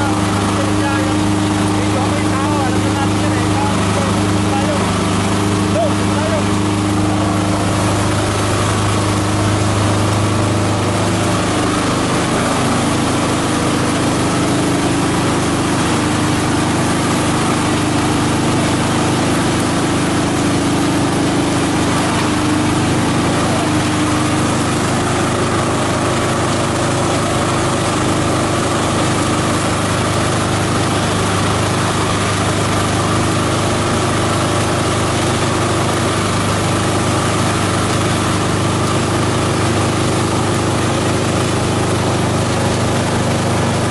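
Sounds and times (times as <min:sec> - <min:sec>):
chopper shredding plant material: 0:00.0 - 0:43.9.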